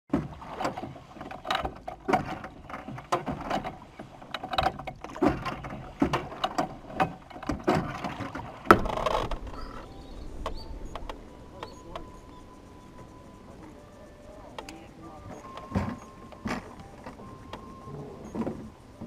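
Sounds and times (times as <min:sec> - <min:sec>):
oars knocking in oarlocks: 0:00.1 - 0:19.0
water splashing off oars: 0:00.1 - 0:19.0.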